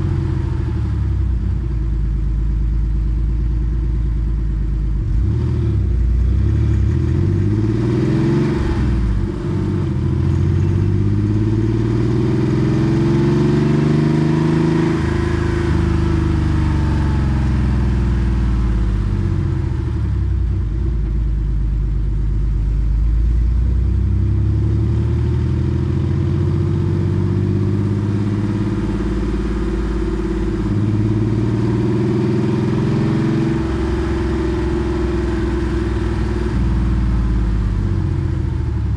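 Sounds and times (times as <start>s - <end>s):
car engine revving: 4.9s - 21.2s, 23.3s - 38.9s.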